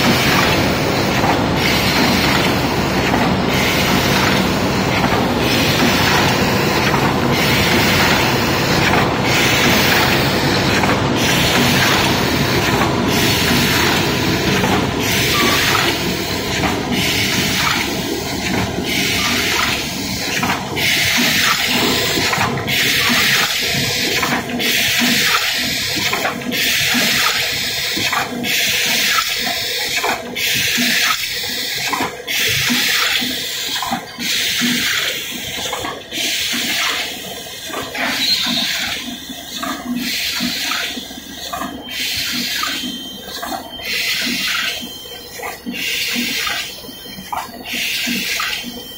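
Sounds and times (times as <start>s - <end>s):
pneumatic mechanism clacking: 0.0s - 48.9s.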